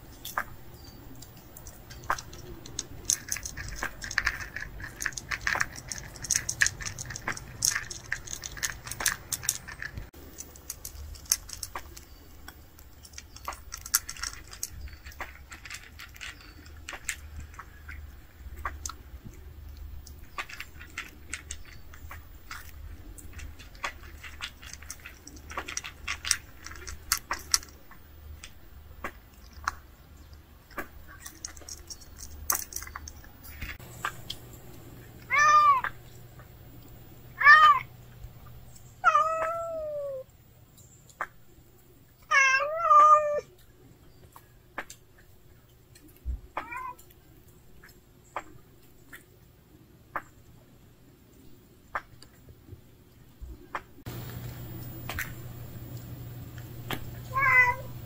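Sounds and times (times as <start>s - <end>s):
cats crunching dry kibble: 0.1s - 40.2s, 41.0s - 50.6s, 54.0s - 58.0s.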